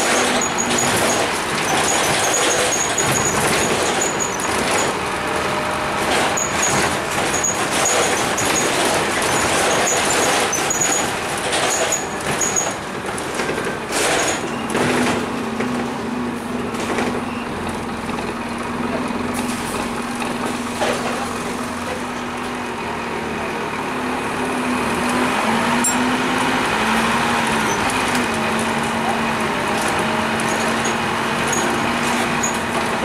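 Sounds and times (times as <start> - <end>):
bus diesel engine: 0.0 - 33.0
road noise: 0.0 - 33.0.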